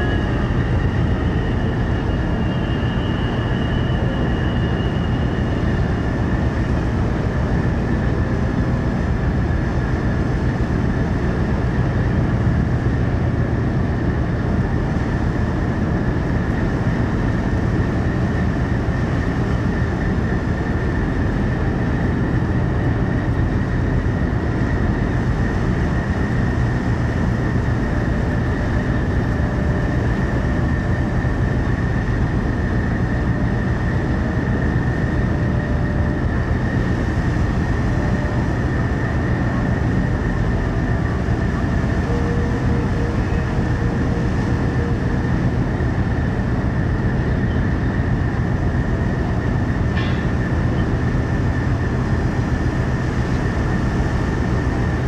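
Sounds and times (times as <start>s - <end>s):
high-pitched whine: 0.0s - 55.0s
ship engines rumbling: 0.0s - 55.0s
tug diesel engines working: 0.0s - 55.0s.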